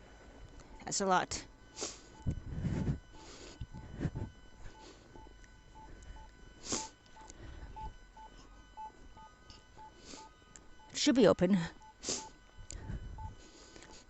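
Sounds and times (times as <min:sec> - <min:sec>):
short electronic beeps: 0:00.6 - 0:14.0.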